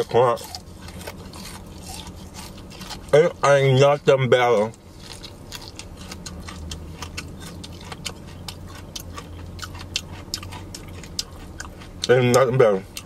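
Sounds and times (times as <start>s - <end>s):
crunchy chewing of fried chicken: 0.0s - 13.0s
low hum: 0.0s - 13.0s.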